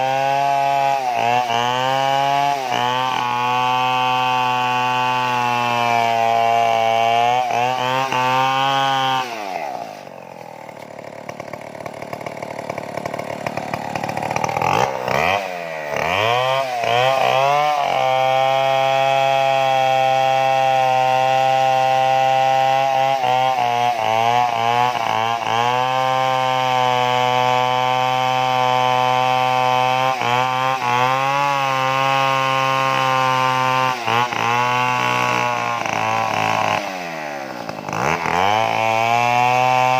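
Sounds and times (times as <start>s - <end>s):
chainsaw at full throttle: 0.0s - 39.9s.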